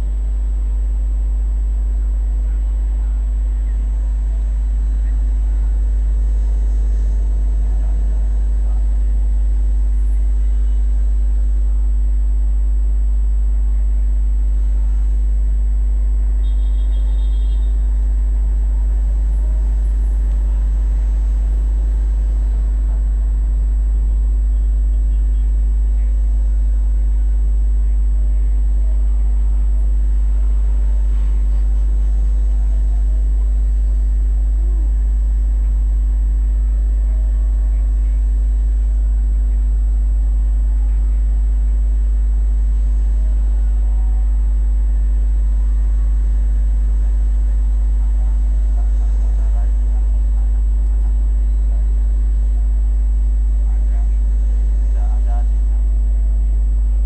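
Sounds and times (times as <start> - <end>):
constant low hum: 0.0 - 57.0
street traffic rumble: 0.0 - 57.0.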